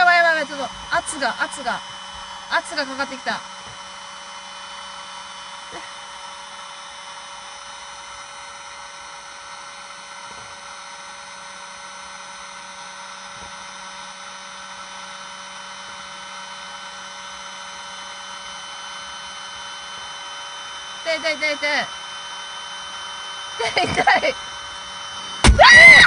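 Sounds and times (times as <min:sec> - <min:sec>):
electric air pump running: 0:00.0 - 0:26.0.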